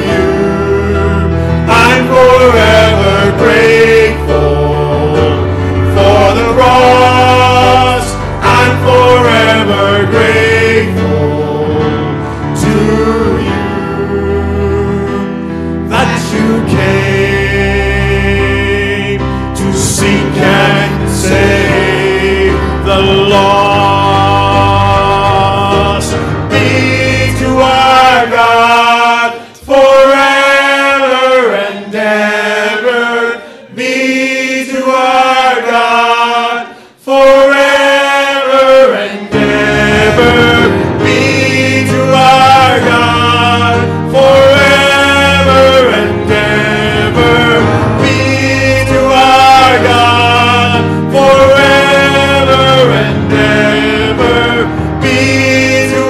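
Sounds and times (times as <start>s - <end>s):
instrumental accompaniment: 0.0s - 33.0s, 37.5s - 56.0s
worship team singing: 0.0s - 56.0s.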